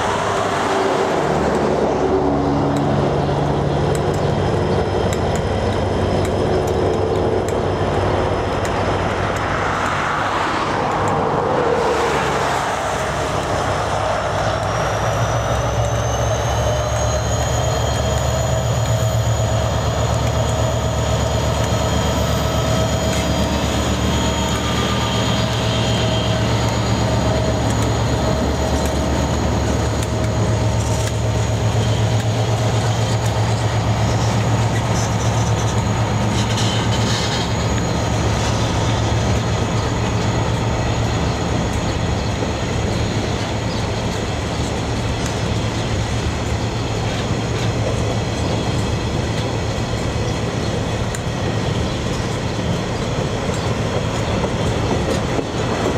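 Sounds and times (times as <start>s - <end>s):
locomotive engine rumble: 0.0s - 55.9s.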